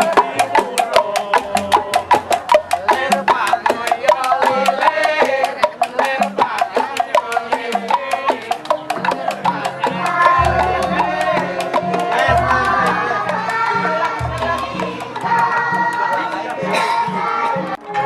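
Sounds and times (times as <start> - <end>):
music with percussion clicks: 0.0 - 18.0.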